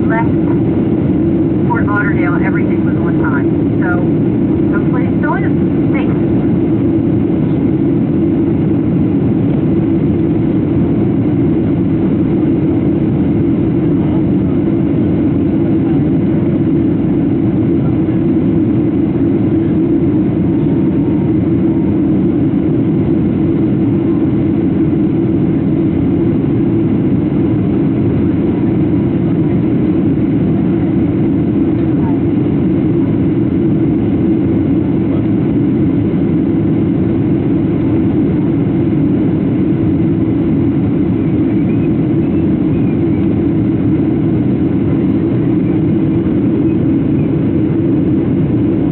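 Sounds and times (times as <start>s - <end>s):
airliner cabin engine rumble: 0.0s - 48.9s.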